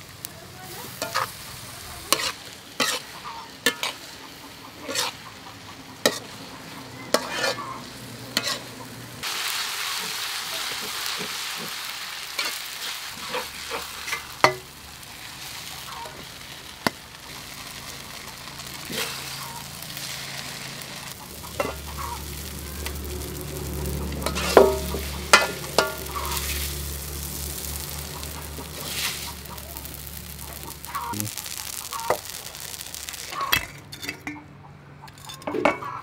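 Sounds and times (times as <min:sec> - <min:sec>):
noodles sizzling in a wok: 0:00.0 - 0:33.8
metal spatula scraping a wok: 0:00.9 - 0:09.1, 0:10.0 - 0:34.4.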